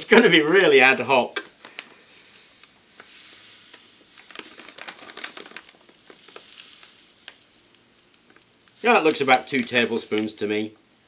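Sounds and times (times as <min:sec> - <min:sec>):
plastic bag crackling: 0:00.0 - 0:11.0
salt pouring hiss: 0:00.1 - 0:11.0.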